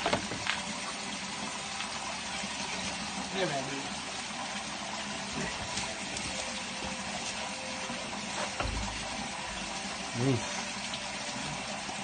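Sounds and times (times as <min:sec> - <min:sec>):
running water through drain: 0:00.0 - 0:12.0.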